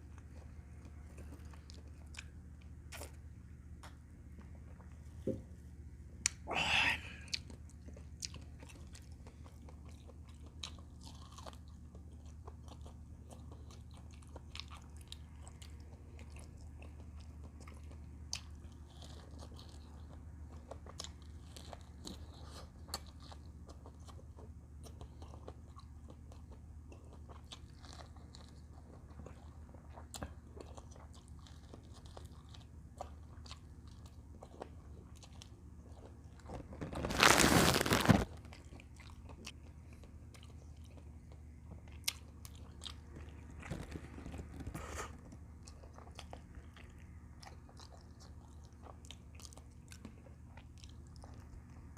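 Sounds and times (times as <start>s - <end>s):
person chewing: 0.0s - 5.1s, 6.2s - 51.9s
steady low hum: 0.0s - 51.9s.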